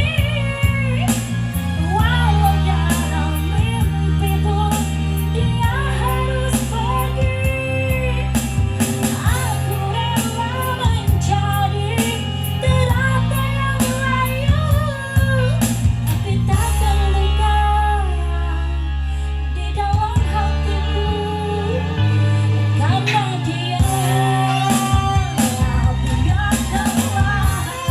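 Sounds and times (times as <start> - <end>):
backing music with low chords: 0.0 - 27.9
woman singing: 0.0 - 27.9.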